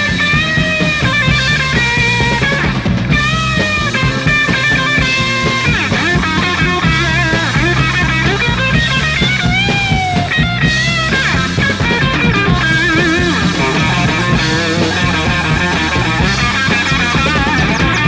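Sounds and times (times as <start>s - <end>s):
bass and drums: 0.0s - 18.0s
psychedelic rock electric guitar: 0.0s - 18.0s.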